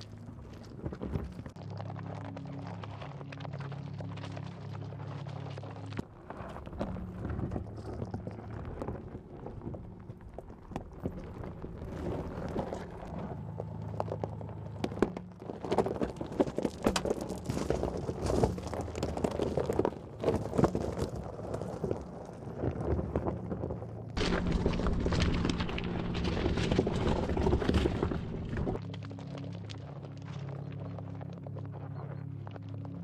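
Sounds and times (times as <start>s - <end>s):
low steady hum: 0.0s - 33.0s
tyres crunching over gravel: 0.0s - 33.0s.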